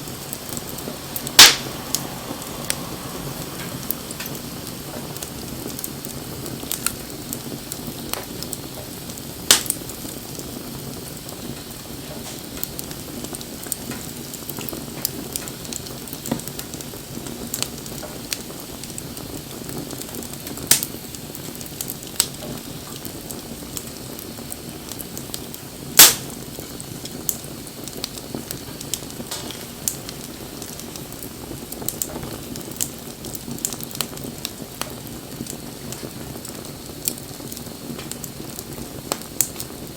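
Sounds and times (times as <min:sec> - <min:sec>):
burning wood crackling and popping: 0:00.0 - 0:39.9
low rush of flame: 0:00.0 - 0:39.9.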